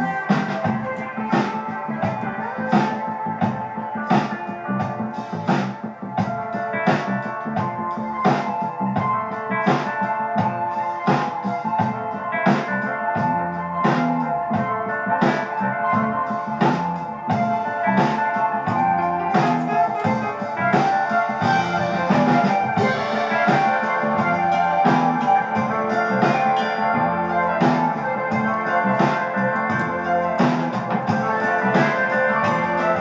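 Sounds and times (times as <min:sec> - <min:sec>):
keyboard music with steady beat: 0:00.0 - 0:33.0.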